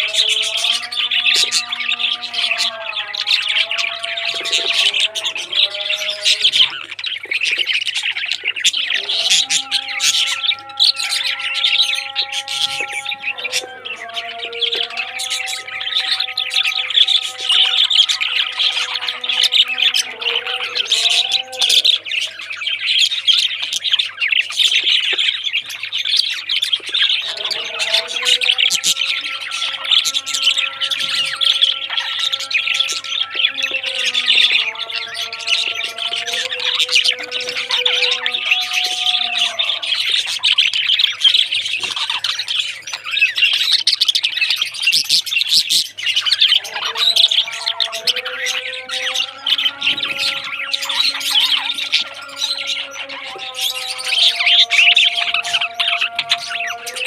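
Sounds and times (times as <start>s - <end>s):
parrots chirping and squawking: 0.0s - 57.0s.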